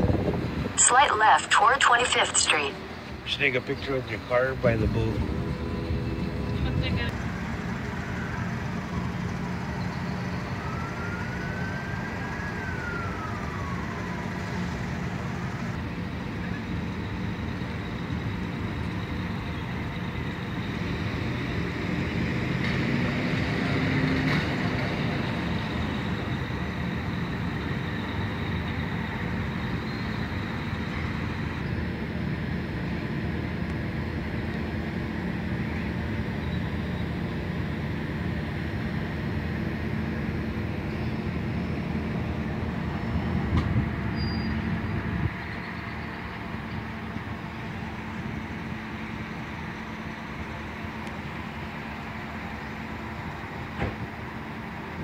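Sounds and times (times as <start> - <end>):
port and road background noise: 0.0 - 55.0.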